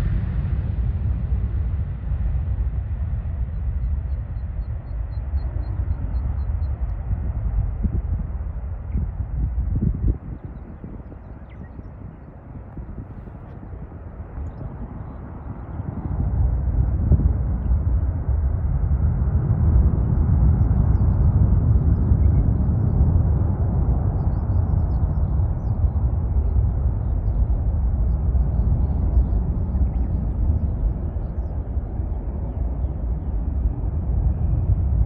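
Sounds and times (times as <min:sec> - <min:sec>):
jet engine roar: 0:00.0 - 0:35.0.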